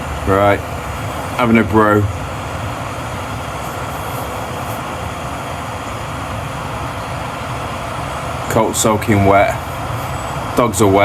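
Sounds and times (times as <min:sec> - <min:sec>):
camping stove burner rushing: 0:00.0 - 0:11.0.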